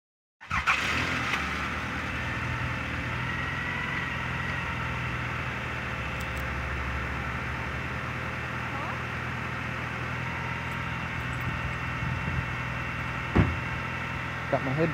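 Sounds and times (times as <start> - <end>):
car engine idling: 0.4 - 14.9.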